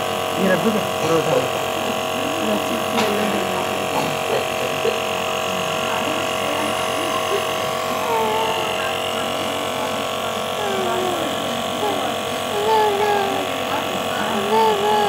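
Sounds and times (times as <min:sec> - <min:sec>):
nebulizer electric hum: 0:00.0 - 0:15.0.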